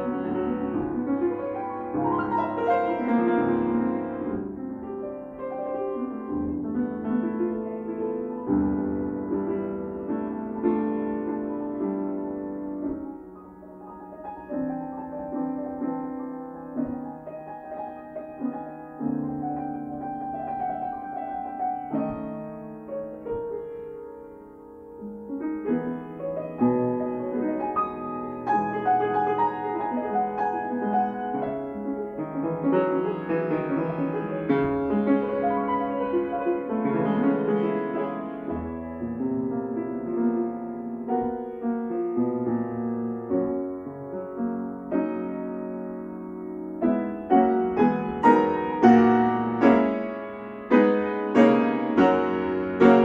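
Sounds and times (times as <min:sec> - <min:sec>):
solo grand piano: 0:00.0 - 0:53.0.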